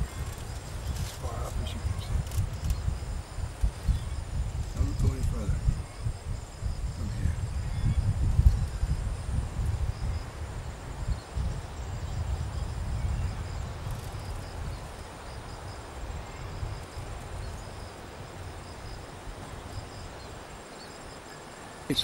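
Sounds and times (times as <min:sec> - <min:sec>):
insects droning: 0:00.0 - 0:22.0
wind rumble on microphone: 0:00.0 - 0:22.0.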